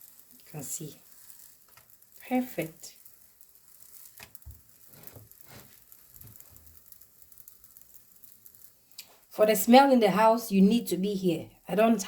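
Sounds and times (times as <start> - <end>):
pancake sizzling in oil: 0.0 - 12.0.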